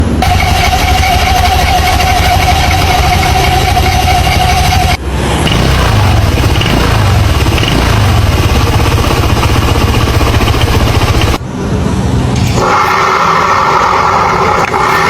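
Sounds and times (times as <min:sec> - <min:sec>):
pulsing mechanical engine noise: 0:00.0 - 0:15.0.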